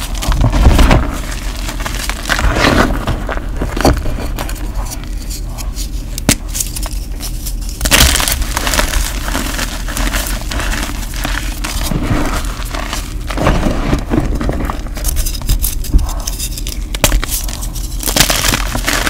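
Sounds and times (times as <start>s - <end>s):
hands crushing chalk blocks: 0.0s - 19.0s.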